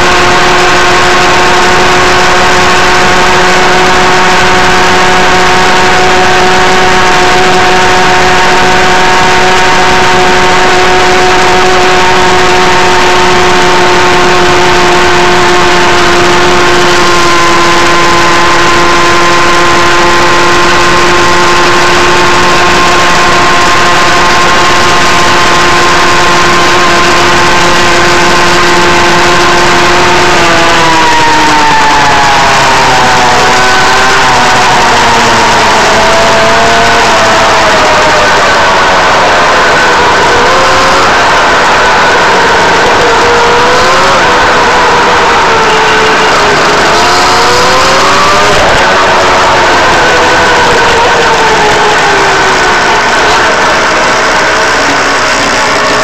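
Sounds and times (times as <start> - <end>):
scooter engine revving high: 0.0 - 56.0.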